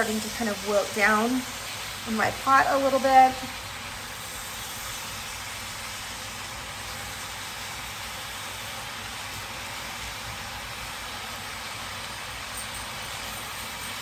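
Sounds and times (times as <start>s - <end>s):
cabbage sizzling in a pot: 0.0s - 14.0s.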